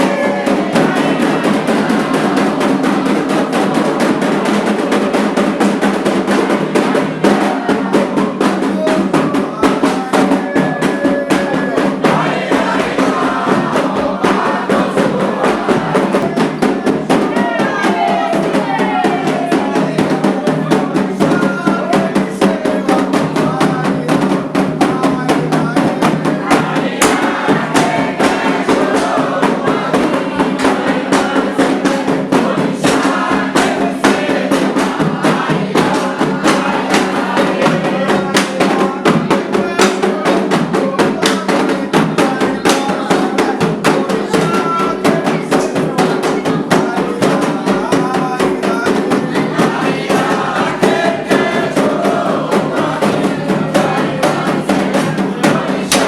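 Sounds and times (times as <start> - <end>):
group of voices singing: 0.0 - 56.0
hand drums beating: 0.0 - 56.0.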